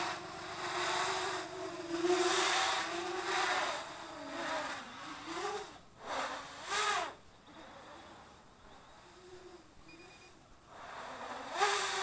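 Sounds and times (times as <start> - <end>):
quadcopter motors buzzing: 0.0 - 12.0.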